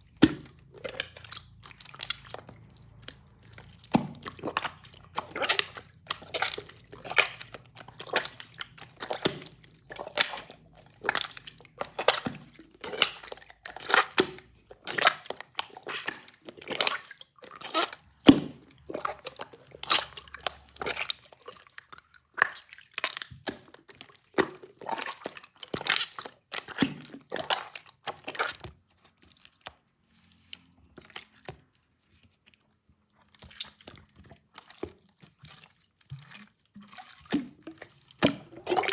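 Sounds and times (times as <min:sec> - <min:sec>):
crisp crunching and crackling: 0:00.0 - 0:38.9.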